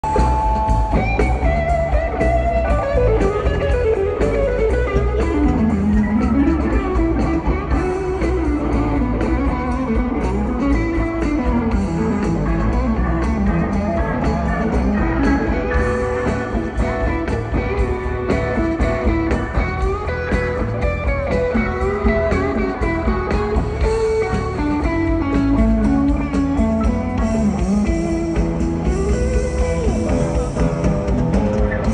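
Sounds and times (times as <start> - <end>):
bass guitar: 0.0 - 31.9
electric guitars: 0.0 - 31.9
steady drum beat: 0.0 - 31.9.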